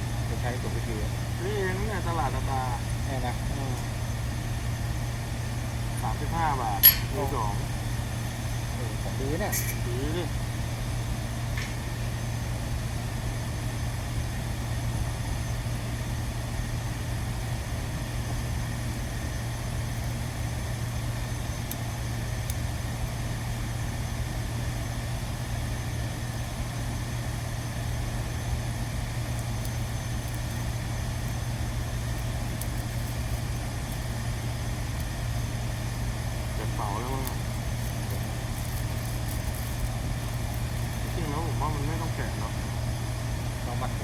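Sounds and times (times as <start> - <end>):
low machine drone: 0.0 - 24.6, 27.5 - 44.0.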